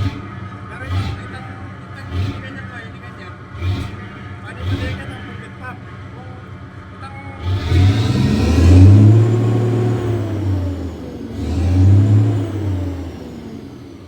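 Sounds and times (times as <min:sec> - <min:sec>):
diesel engine revving: 0:00.0 - 0:14.0.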